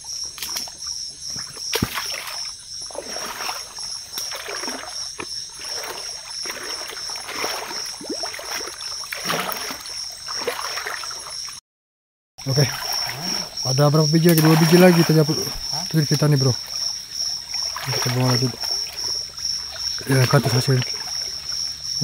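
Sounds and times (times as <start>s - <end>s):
insects chirring: 0.0s - 11.6s, 12.4s - 22.0s
wading through water splashing: 0.0s - 11.6s, 12.4s - 22.0s.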